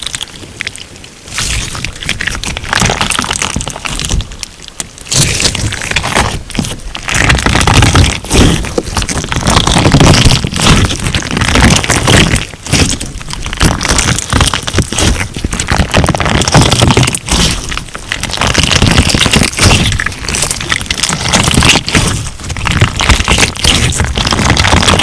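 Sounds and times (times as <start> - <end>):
slime crackling and popping: 0.0 - 25.0.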